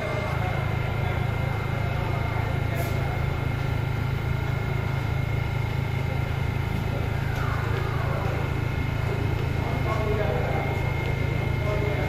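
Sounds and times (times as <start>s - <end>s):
subway train low hum: 0.0s - 12.0s.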